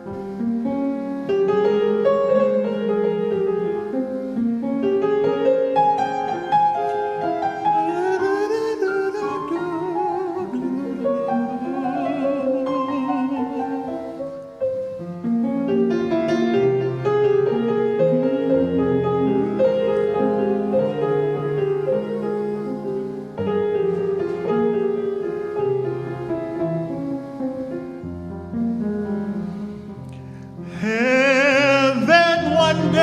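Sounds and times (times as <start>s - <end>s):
keyboard chords and melody: 0.0s - 33.0s.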